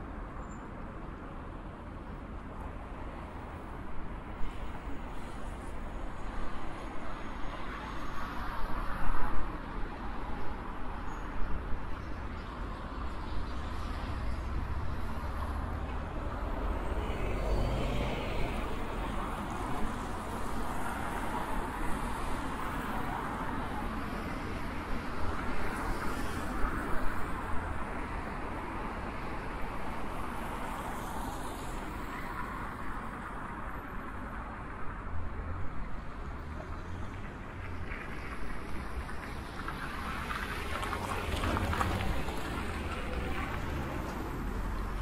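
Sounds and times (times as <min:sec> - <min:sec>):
traffic road noise hiss: 0:00.0 - 0:45.0.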